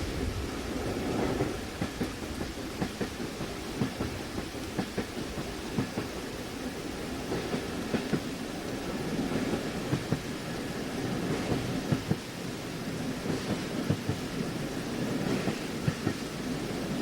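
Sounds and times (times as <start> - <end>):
rain: 0.0 - 17.0
train carriage rumble: 0.0 - 17.0.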